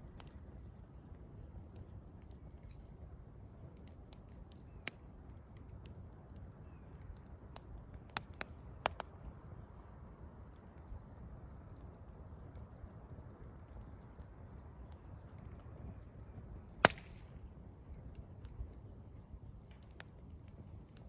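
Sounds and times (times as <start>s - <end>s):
campfire crackling: 0.0s - 21.0s
firewood popping: 0.0s - 21.0s.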